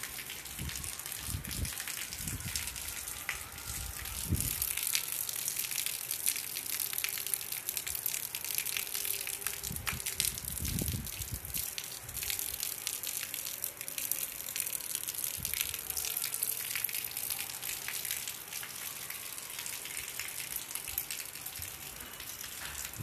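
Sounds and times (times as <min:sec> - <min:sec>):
rain on concrete rooftop: 0:00.0 - 0:23.0.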